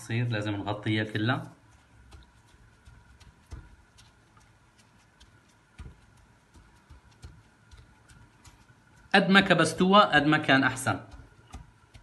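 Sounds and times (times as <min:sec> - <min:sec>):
dough crackling and ticking: 0:00.0 - 0:12.0.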